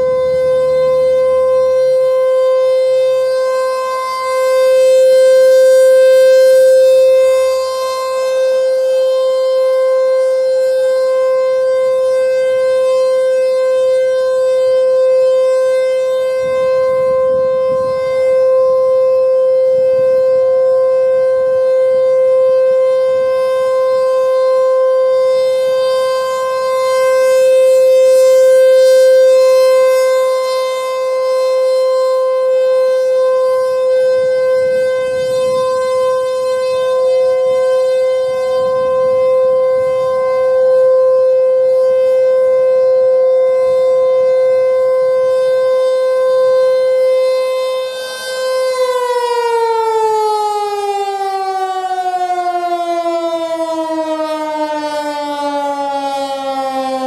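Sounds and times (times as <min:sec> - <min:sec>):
rotating warning siren: 0:00.0 - 0:57.0.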